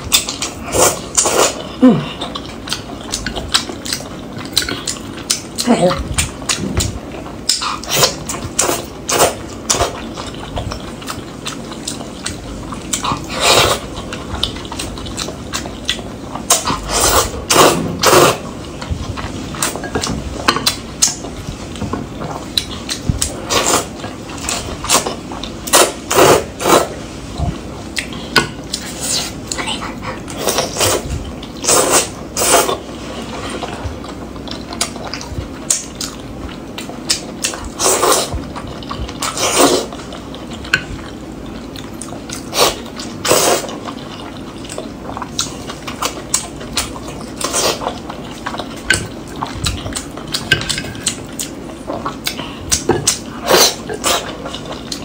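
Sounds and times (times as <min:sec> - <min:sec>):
chewing: 0:00.0 - 0:55.0
wet noodle slurping: 0:00.1 - 0:05.4, 0:07.4 - 0:33.8, 0:37.1 - 0:41.2, 0:41.9 - 0:55.0.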